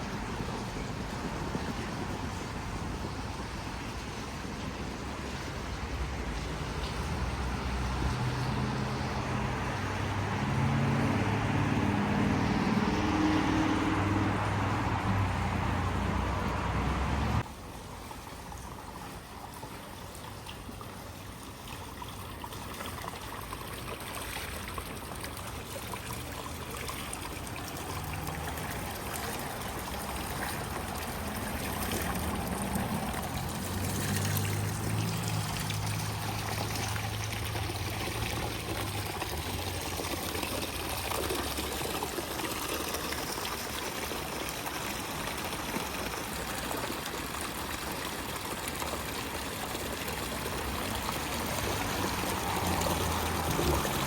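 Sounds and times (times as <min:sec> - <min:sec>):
waterfall trickling and splashing: 0:00.0 - 0:54.0.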